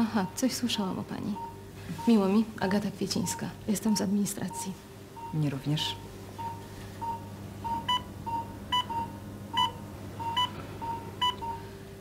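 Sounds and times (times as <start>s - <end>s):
low steady hum: 0.0s - 12.0s
plain short electronic beeps: 1.2s - 11.7s.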